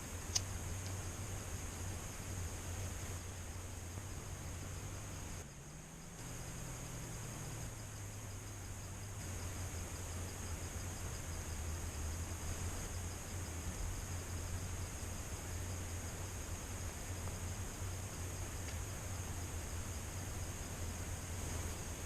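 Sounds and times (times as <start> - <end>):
insects chirping: 0.0 - 22.0
insects droning: 0.0 - 22.0
low steady rumble: 0.0 - 22.0.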